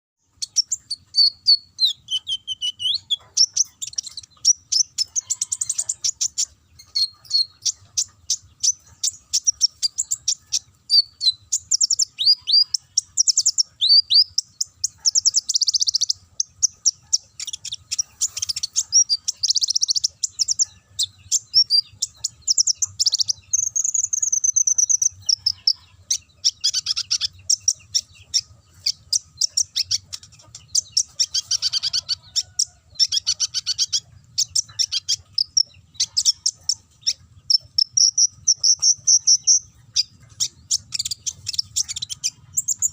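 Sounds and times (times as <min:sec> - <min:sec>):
bird singing chirps and trills: 0:00.2 - 0:42.9.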